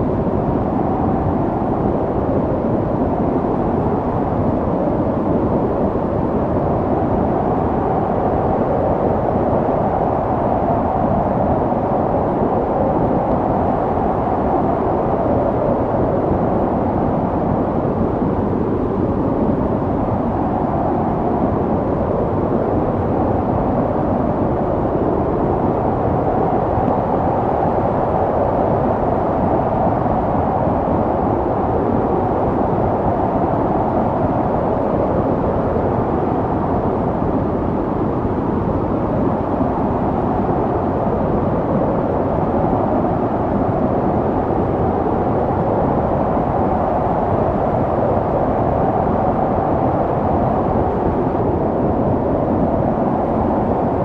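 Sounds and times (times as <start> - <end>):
wind howling: 0.0 - 54.0.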